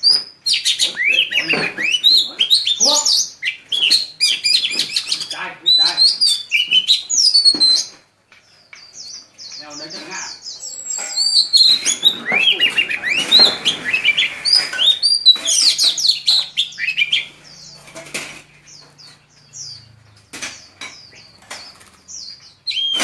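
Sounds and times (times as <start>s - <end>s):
small birds twittering: 0.0s - 23.0s.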